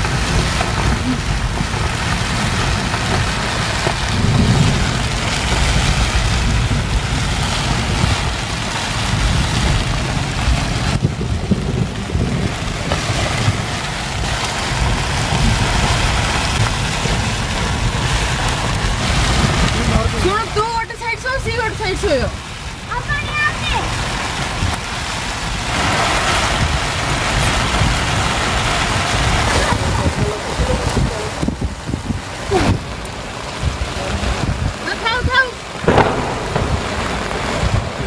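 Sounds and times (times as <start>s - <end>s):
heavy rain: 0.0s - 38.0s
wind buffeting microphone: 0.0s - 38.0s.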